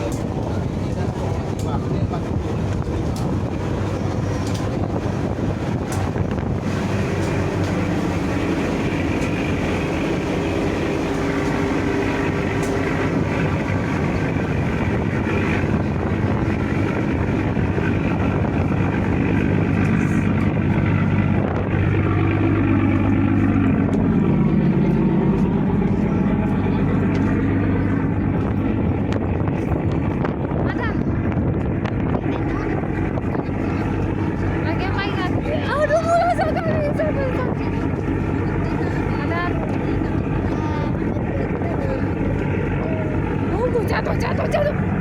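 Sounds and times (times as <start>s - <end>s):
deep drone: 0.0s - 45.0s
ship engine rumble: 0.0s - 45.0s.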